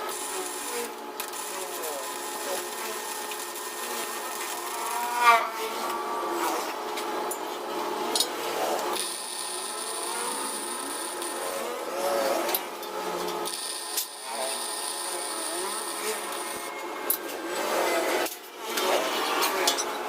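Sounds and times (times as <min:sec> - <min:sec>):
power tool scraping metal: 0:00.0 - 0:07.4, 0:08.1 - 0:20.0.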